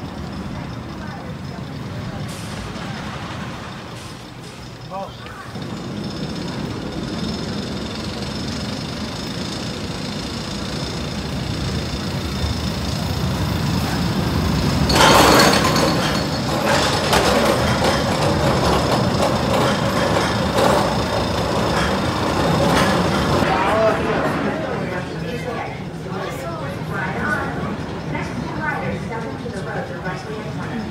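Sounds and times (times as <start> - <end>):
roller coaster on track: 0.0 - 30.9.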